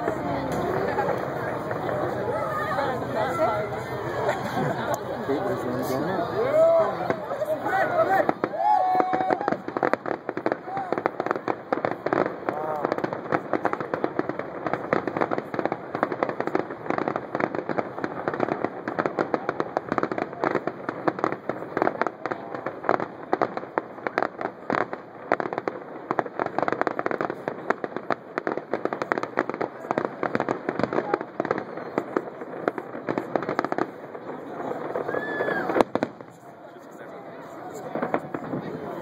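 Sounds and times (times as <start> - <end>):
fireworks popping and banging: 0.0 - 39.0.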